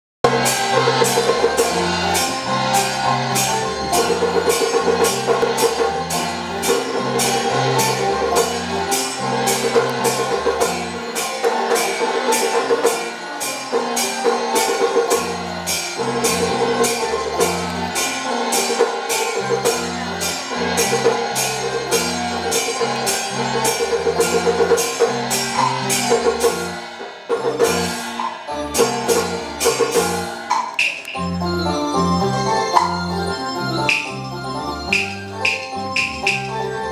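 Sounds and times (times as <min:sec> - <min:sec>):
percussion beat: 0:00.2 - 0:36.9
melodic instruments: 0:00.3 - 0:36.9.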